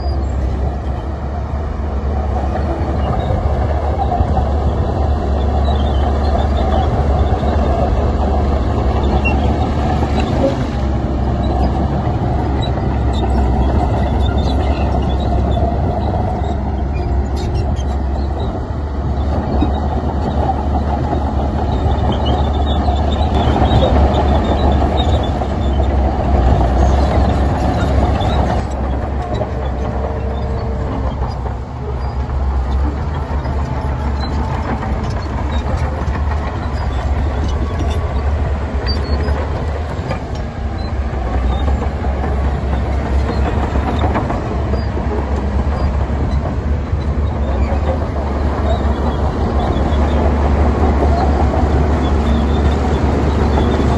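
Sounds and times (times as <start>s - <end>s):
diesel machinery rumbling: 0.0s - 53.9s.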